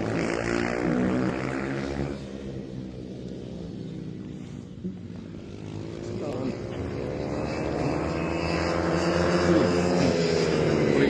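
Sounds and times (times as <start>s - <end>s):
motorbike engines racing: 0.0s - 11.0s.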